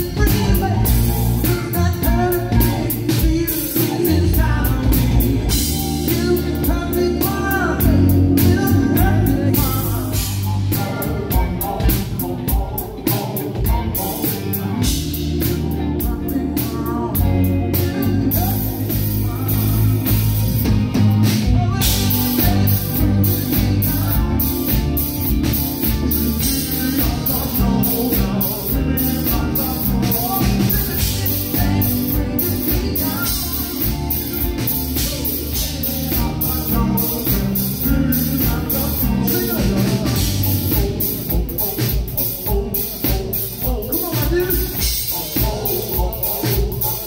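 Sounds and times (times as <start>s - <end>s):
live rock band playing: 0.0s - 47.0s
man singing lead vocal: 0.0s - 47.0s.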